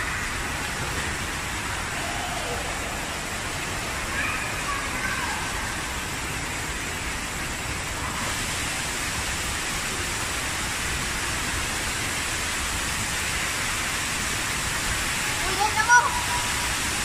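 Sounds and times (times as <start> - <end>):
fountain water splashing into pool: 0.0 - 17.0.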